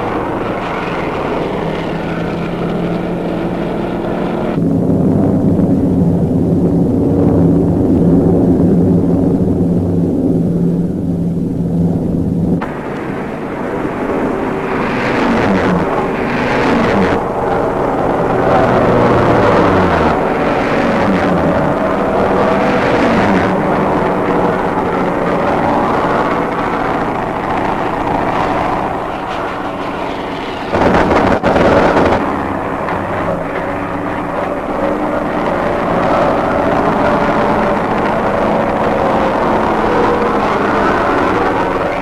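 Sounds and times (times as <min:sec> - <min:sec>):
propeller plane engines droning: 0:00.0 - 0:42.0.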